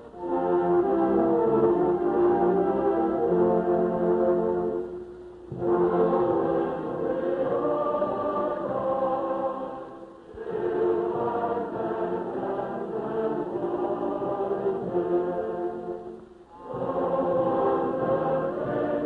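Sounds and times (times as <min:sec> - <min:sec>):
choir singing: 0:00.0 - 0:04.9, 0:05.5 - 0:19.0.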